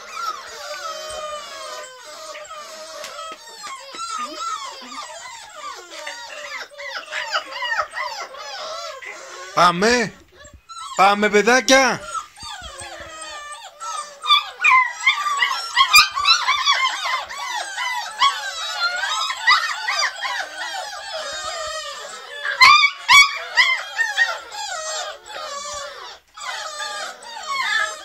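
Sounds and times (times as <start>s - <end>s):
puppies whining and yelping: 0.0s - 28.0s.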